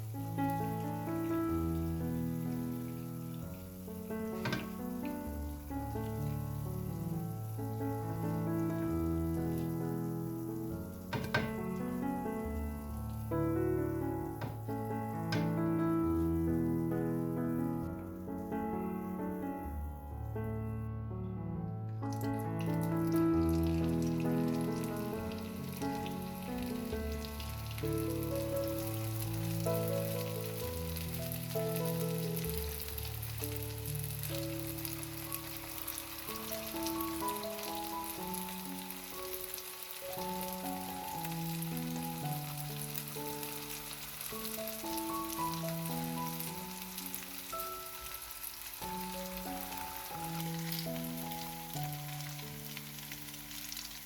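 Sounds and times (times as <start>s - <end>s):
food sizzling in hot oil: 0.0s - 20.3s, 22.0s - 54.0s.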